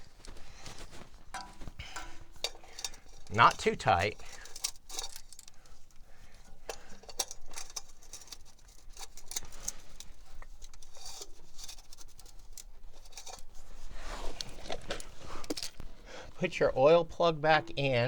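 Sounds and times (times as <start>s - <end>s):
hands handling small metal parts: 0.0s - 16.0s.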